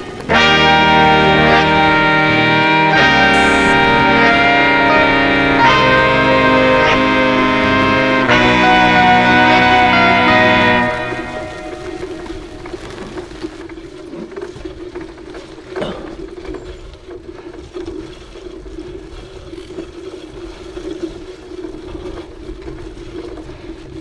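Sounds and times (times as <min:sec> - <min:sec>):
bike tyres humming on dirt: 0:00.0 - 0:24.0.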